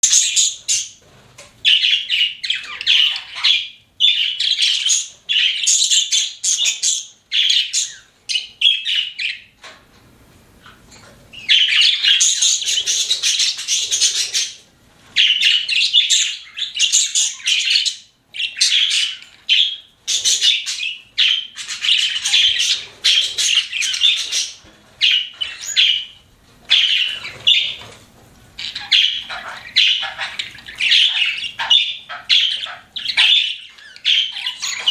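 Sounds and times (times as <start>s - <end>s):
budgerigars chirping: 0.0s - 9.6s, 11.3s - 28.0s, 28.6s - 34.9s.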